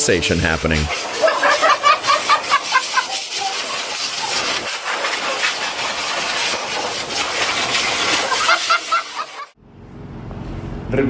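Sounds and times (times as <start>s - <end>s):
blow dryer hissing: 0.0s - 9.6s.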